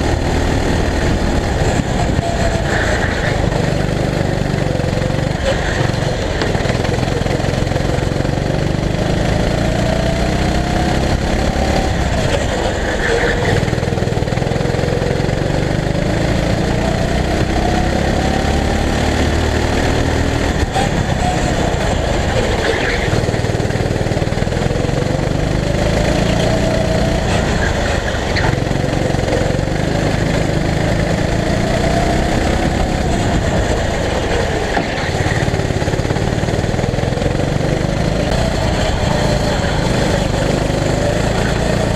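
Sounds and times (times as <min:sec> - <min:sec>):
go-kart engine revving: 0:00.0 - 0:41.9.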